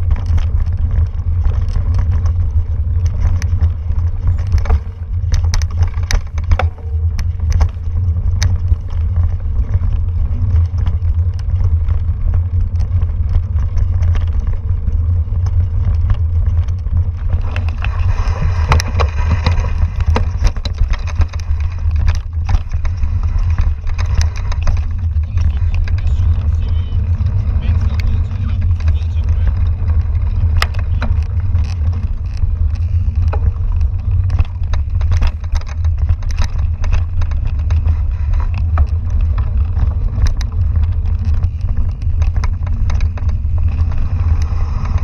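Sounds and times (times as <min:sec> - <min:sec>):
bike knocking and rattling: 0:00.0 - 0:45.0
wind buffeting microphone: 0:00.0 - 0:45.0.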